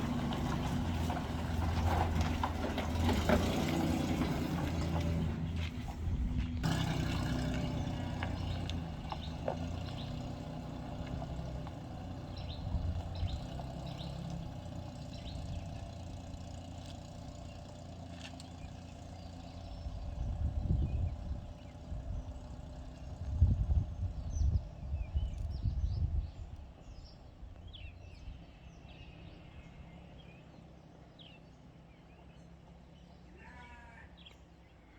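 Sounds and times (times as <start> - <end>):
low rumbling: 0.0 - 29.9
vehicle engine humming: 0.0 - 33.3.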